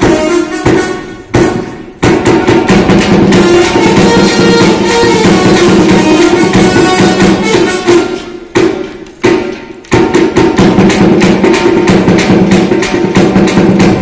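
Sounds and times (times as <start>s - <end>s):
folk dance music with percussion: 0.0s - 14.0s
loud percussion strikes: 0.0s - 14.0s.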